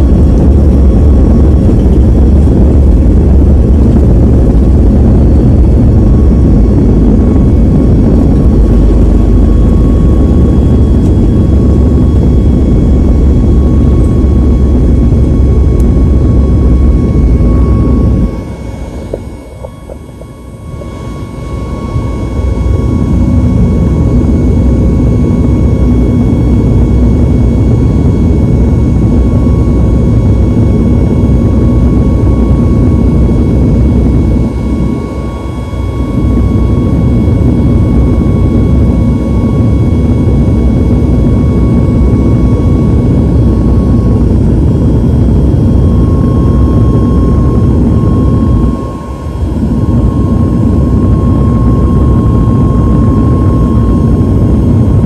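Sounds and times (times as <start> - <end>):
high engine whine: 0.0 - 55.0
jet engines roaring: 0.0 - 55.0.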